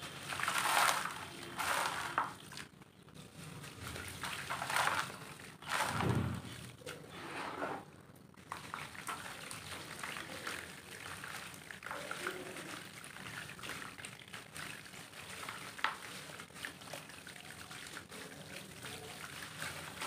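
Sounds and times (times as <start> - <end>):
dirt showering into water: 0.0 - 2.7, 3.5 - 7.1, 8.4 - 20.0.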